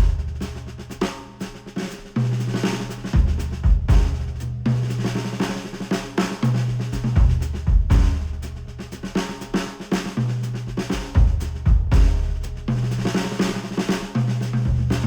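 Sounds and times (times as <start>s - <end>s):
drum kit: 0.0s - 15.0s.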